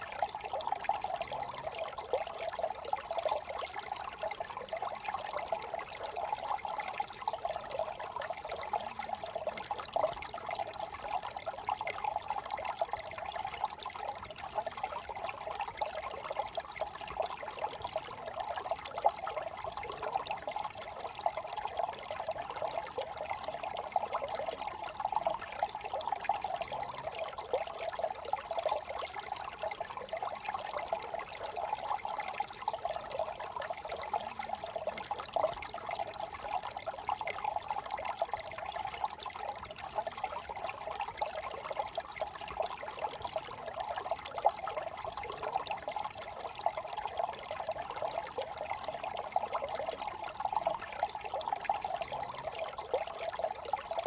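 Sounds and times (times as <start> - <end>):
brook trickling over stones: 0.0 - 54.0.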